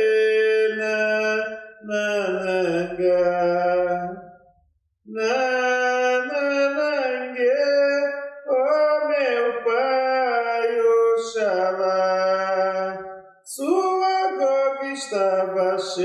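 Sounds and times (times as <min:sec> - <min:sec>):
man singing unaccompanied: 0:00.0 - 0:04.3, 0:05.1 - 0:16.0.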